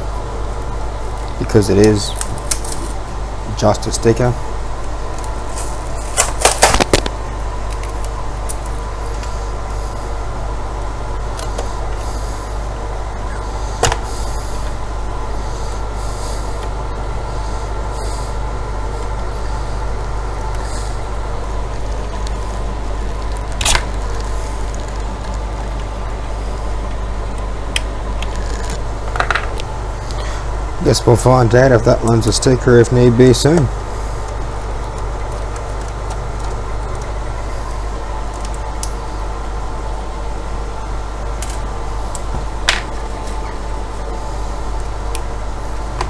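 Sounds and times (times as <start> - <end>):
low mechanical hum: 0.0 - 46.0.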